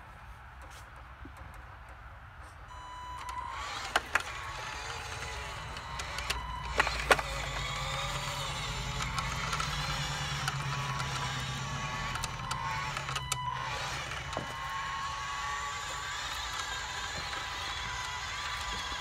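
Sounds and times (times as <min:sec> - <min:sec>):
electric motor and gear whine: 0:02.7 - 0:19.0
sharp clicks: 0:03.2 - 0:19.0.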